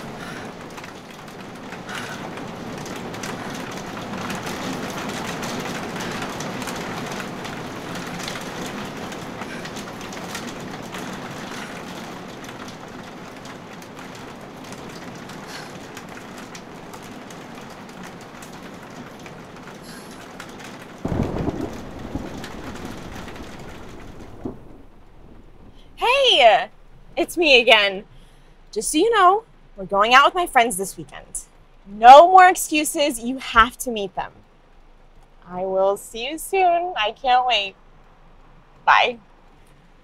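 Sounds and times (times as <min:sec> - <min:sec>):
rain on a car roof: 0:00.0 - 0:30.4, 0:31.1 - 0:32.6, 0:33.9 - 0:40.0.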